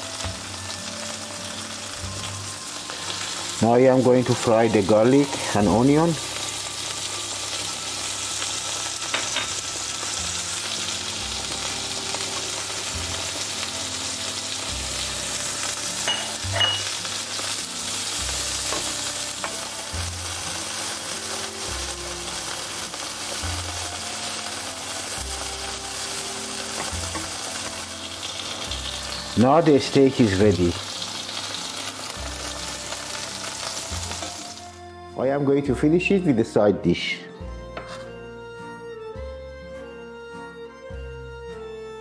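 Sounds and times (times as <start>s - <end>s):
steak sizzling on a griddle: 0.0s - 34.8s.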